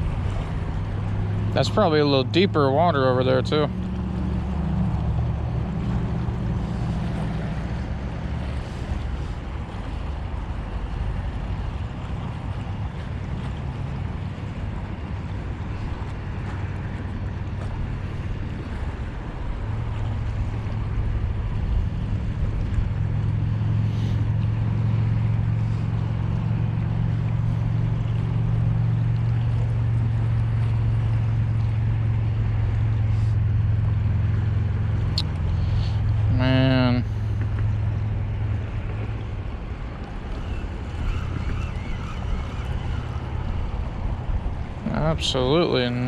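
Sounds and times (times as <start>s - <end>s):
engine droning: 0.0s - 46.0s
water noise: 0.0s - 46.0s.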